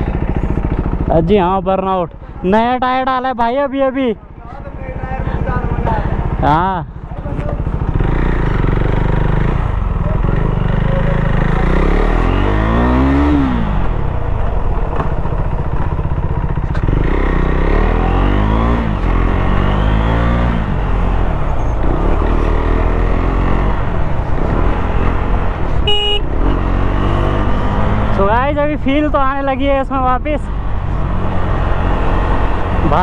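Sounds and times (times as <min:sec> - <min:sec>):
motorcycle engine accelerating: 0:00.0 - 0:02.8, 0:04.6 - 0:33.0.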